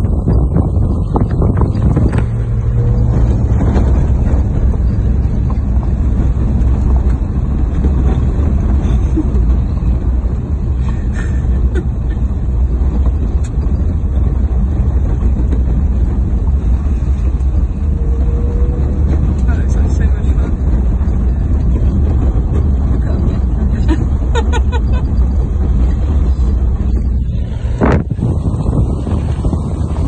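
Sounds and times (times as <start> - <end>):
vehicle engine and tyre rumble: 0.0 - 30.0.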